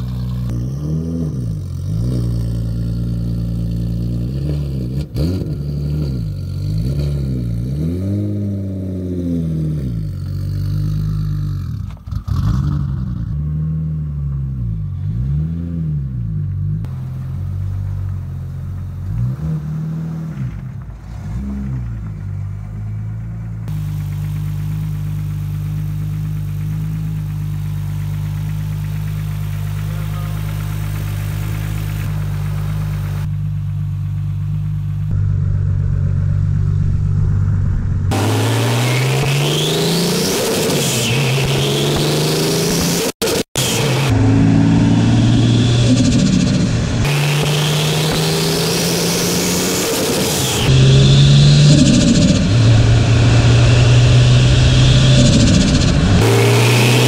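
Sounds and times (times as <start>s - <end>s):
car engine revving and idling: 0.0s - 57.0s.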